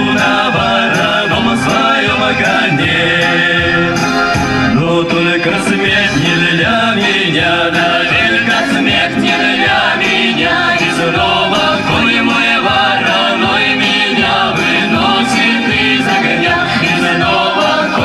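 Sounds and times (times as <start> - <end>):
folk song singing: 0.0 - 18.0
instrumental backing with beat: 0.0 - 18.0.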